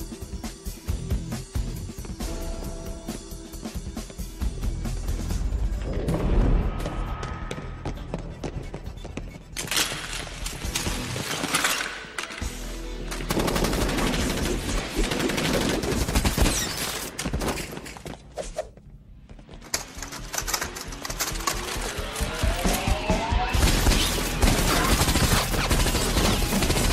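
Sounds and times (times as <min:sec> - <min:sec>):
film music score: 0:00.0 - 0:16.3, 0:19.1 - 0:26.9.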